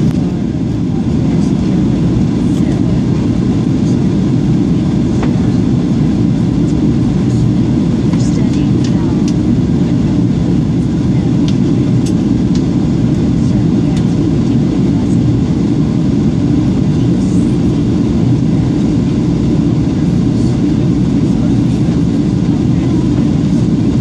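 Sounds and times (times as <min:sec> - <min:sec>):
jet airliner cabin drone: 0:00.0 - 0:24.0.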